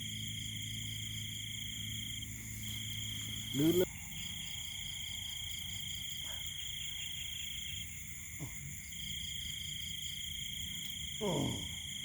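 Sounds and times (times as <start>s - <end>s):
cricket trills: 0.0s - 12.0s
pulsing insect trill: 0.0s - 12.0s.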